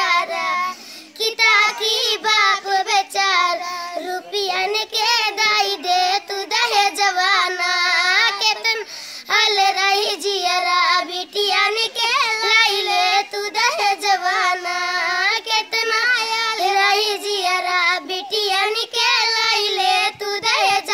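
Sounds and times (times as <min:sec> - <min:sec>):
children singing: 0:00.0 - 0:20.9.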